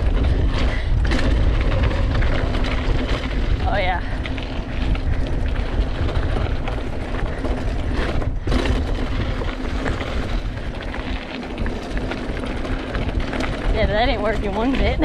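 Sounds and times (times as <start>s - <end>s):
bike rattling over bumps: 0.0s - 15.0s
bike tyres on dirt trail: 0.0s - 15.0s
wind buffeting microphone: 0.0s - 15.0s.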